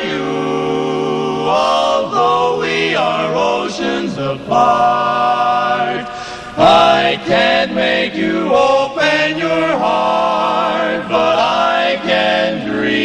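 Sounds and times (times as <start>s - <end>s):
men singing in close harmony: 0.0s - 13.0s.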